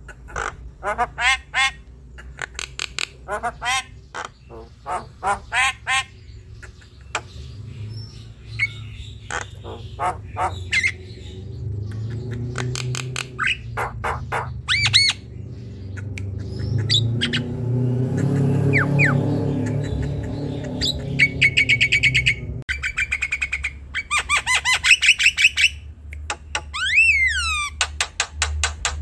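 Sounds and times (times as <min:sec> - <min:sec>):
myna bird chattering: 0:00.0 - 0:28.0.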